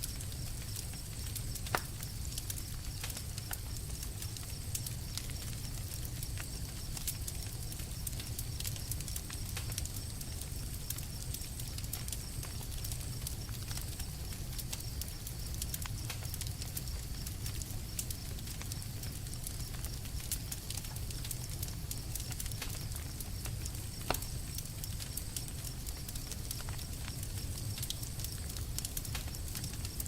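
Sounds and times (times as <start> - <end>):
campfire crackling and popping: 0.0 - 30.0
low rumble of flame: 0.0 - 30.0.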